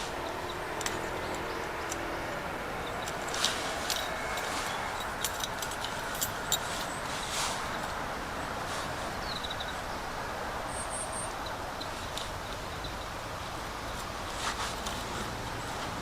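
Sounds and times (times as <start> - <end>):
steady background rush: 0.0 - 16.0.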